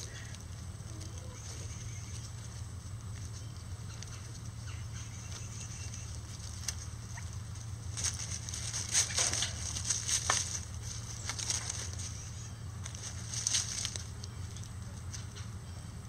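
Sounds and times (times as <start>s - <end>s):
chickens scratching in dry leaves: 0.0s - 16.0s
steady low hum: 0.0s - 16.0s.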